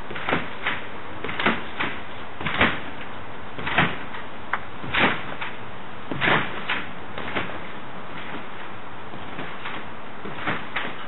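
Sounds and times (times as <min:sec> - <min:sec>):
trampoline thumping: 0:00.0 - 0:11.0.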